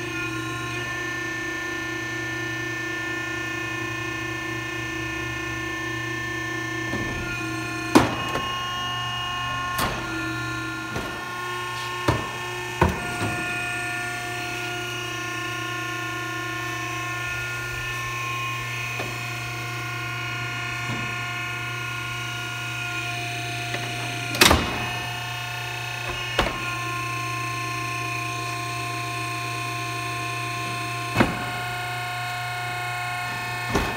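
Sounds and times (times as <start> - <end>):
hydraulic pump whining: 0.0 - 33.9.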